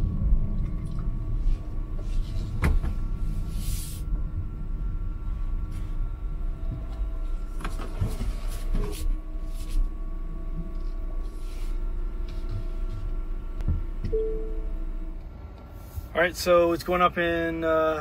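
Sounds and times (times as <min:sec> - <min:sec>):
car cabin rumble: 0:00.0 - 0:16.6
faint steady tones: 0:00.1 - 0:18.0.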